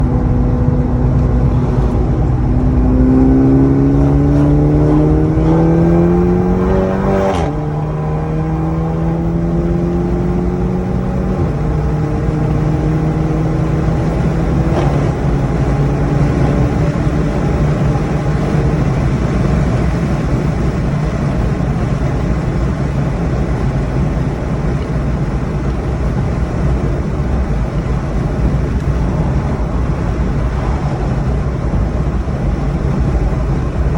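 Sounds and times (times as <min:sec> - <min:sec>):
rushing noise: 0:00.0 - 0:22.2, 0:26.1 - 0:33.9
car engine revving: 0:00.0 - 0:33.9.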